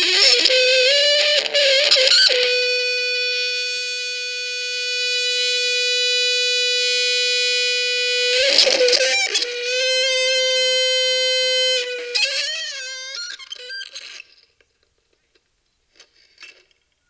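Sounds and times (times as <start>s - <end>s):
buzzy feedback tone: 0.0s - 14.2s
wavering feedback squeal: 0.0s - 14.2s.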